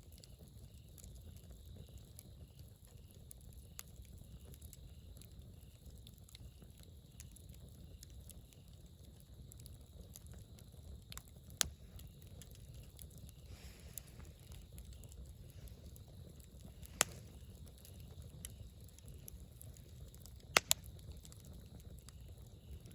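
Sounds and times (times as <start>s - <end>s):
campfire crackling: 0.0s - 22.9s
loud pops from burning wood: 0.0s - 22.9s.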